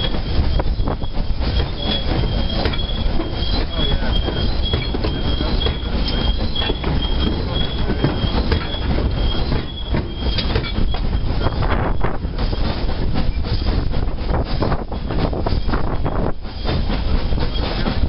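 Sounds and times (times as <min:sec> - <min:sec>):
high wheel squeal: 0:00.0 - 0:12.7, 0:15.4 - 0:18.0
train rumbling on track: 0:00.0 - 0:18.0.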